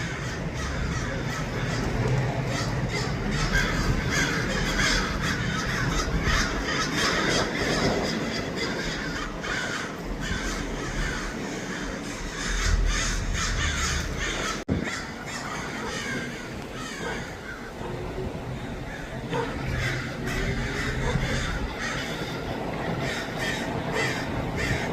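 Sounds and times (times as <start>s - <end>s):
crows cawing: 0.0s - 24.9s.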